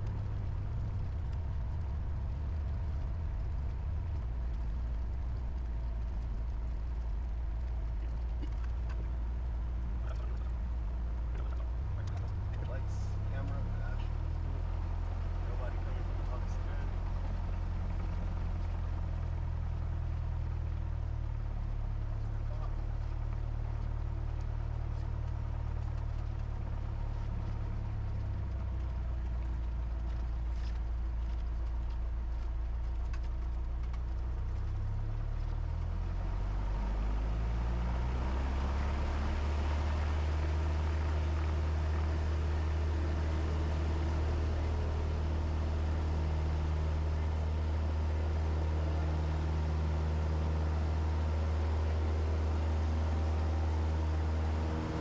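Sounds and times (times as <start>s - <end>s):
airplane engine and propeller running: 0.0s - 55.0s.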